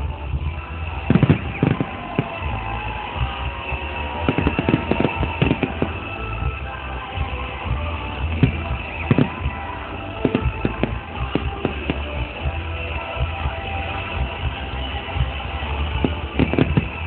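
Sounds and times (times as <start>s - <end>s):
fireworks bursting: 0.0s - 17.0s
music: 0.0s - 17.0s.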